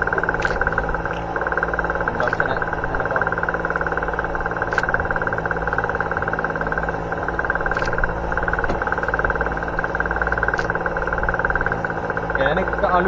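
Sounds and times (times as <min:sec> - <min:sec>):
faint clicks: 0:00.0 - 0:12.9
boat engine pulsing: 0:00.0 - 0:13.0.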